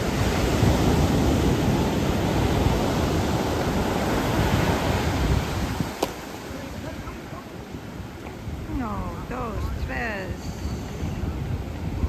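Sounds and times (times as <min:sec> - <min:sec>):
ocean surf washing up beach: 0:00.0 - 0:12.0.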